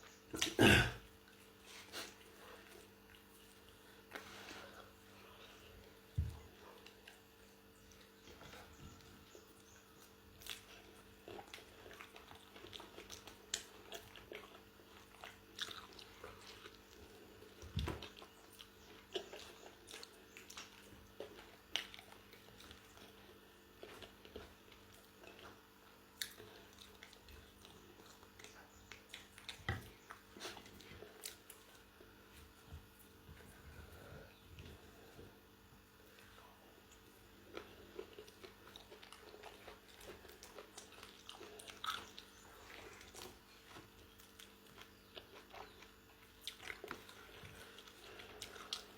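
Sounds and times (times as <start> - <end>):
chewing crisp food: 0.0 - 48.9
faint steady hum: 0.0 - 48.9.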